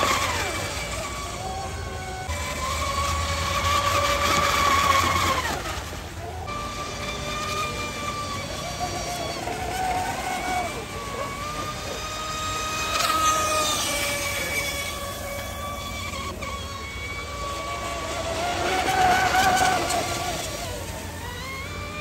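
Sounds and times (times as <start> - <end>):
electric boat motor whining: 0.0 - 22.0.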